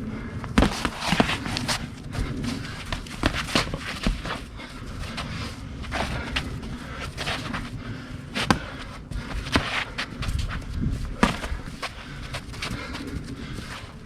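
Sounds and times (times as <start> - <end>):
feet shuffling and scuffing: 0.4 - 14.0.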